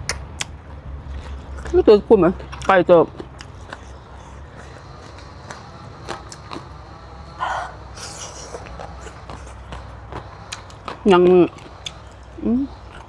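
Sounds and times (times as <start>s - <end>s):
person chewing close to microphone: 0.0s - 6.8s, 8.0s - 13.0s.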